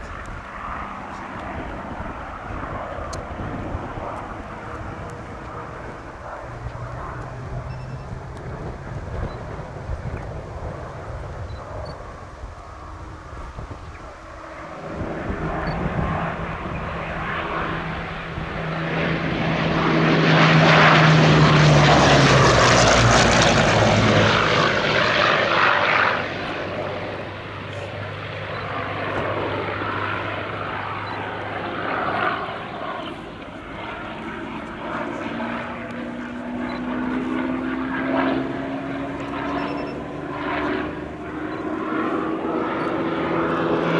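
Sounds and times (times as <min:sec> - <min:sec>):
propeller plane engine fly-by: 0:00.0 - 0:43.9.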